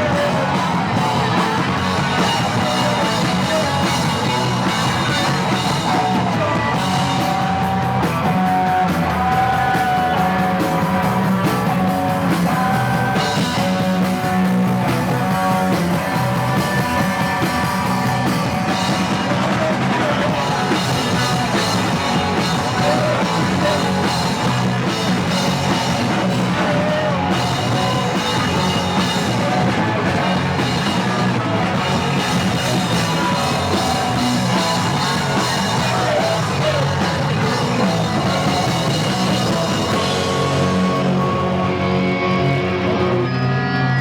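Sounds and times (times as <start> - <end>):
bass guitar: 0.0 - 44.0
distorted electric guitars: 0.0 - 44.0
drum kit: 0.0 - 44.0
ringing guitar chords: 0.0 - 44.0
shouted vocals: 0.0 - 44.0.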